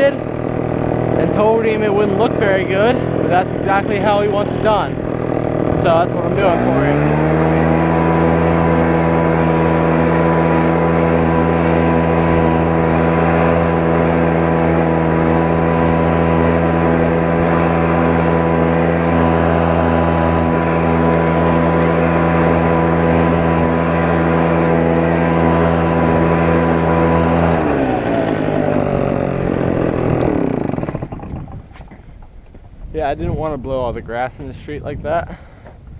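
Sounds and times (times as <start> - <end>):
lawn mower engine running: 0.0 - 34.8.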